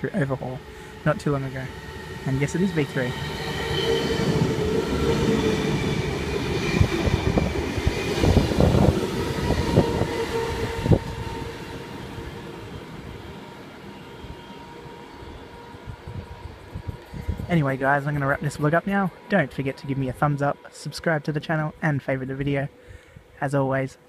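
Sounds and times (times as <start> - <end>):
train wheels rumbling on rail: 0.0 - 21.8
train hum: 0.0 - 24.0.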